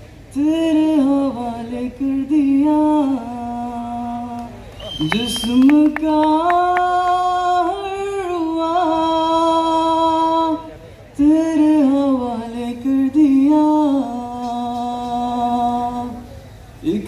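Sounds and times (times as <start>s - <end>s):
man singing through pa: 0.3s - 17.0s.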